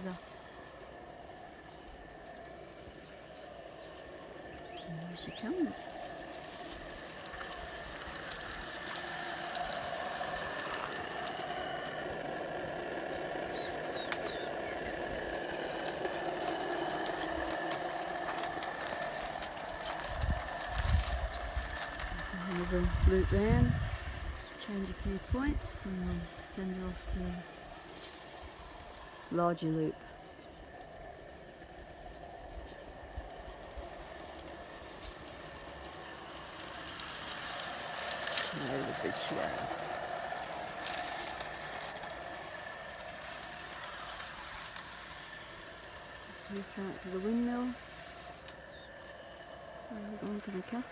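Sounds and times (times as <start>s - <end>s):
model steam engine running: 0.0s - 50.9s.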